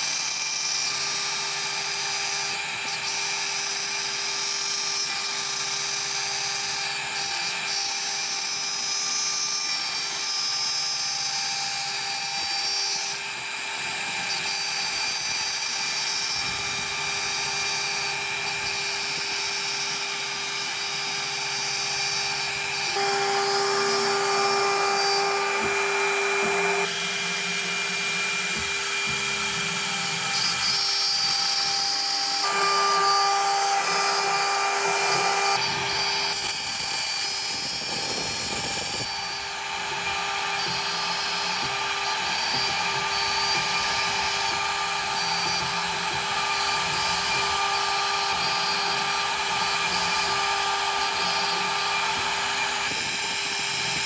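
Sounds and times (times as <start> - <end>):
end mill rasping into wood: 0.0 - 54.0
router spindle high whine: 0.0 - 54.0.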